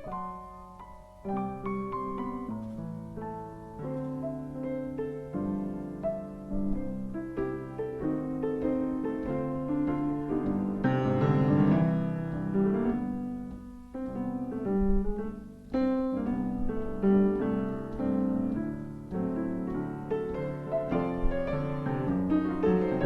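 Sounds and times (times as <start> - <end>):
solo piano playing: 0.0 - 23.0.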